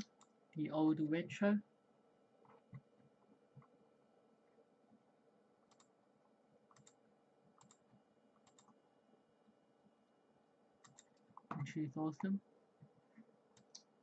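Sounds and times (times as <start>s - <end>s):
quiet room hum: 0.0s - 14.0s.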